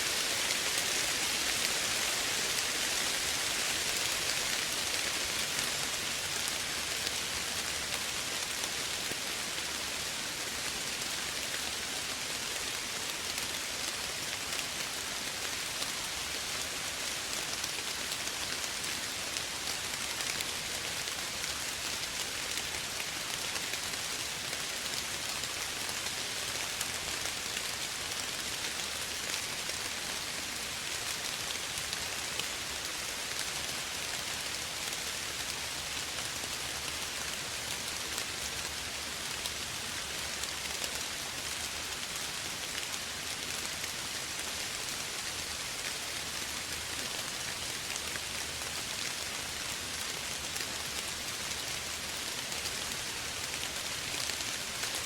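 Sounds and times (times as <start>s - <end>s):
gentle rain pattering: 0.0s - 55.0s.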